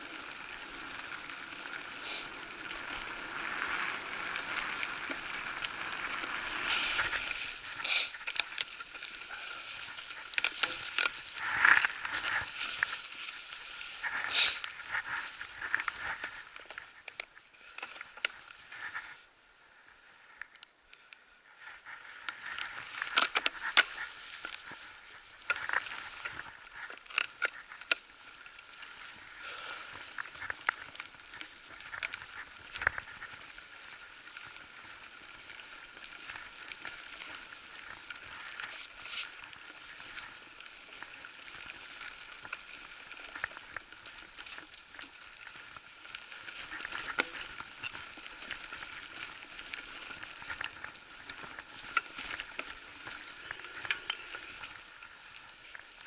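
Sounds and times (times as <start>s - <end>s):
tyres crackling over leaves: 0.0s - 56.0s.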